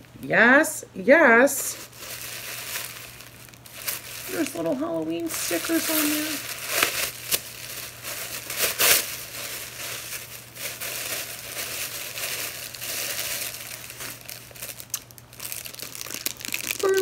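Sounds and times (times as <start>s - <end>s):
tissue paper rustling and crumpling: 1.6s - 17.0s.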